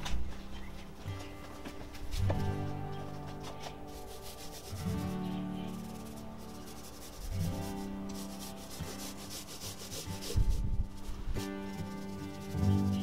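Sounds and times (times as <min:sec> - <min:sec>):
background music with held notes: 0:00.0 - 0:13.0
paint roller swishing on wood: 0:01.9 - 0:13.0.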